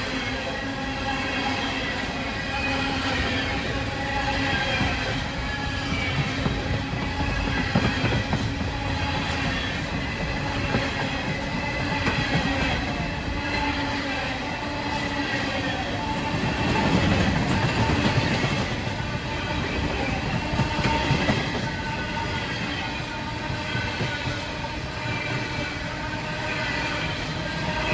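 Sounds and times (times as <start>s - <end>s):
freight train rumble and clatter: 0.0s - 27.9s.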